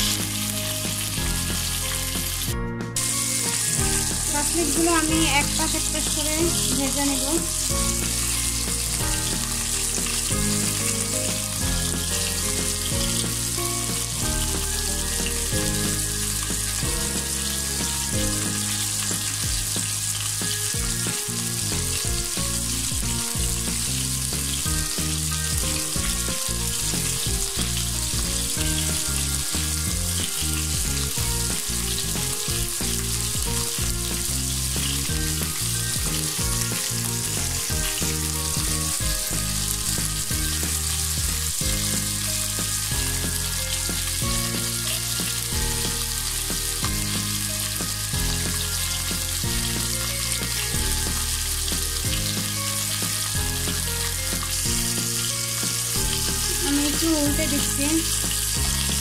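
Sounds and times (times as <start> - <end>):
background music: 0.0 - 59.0
skewers sizzling in hot oil: 0.0 - 59.0.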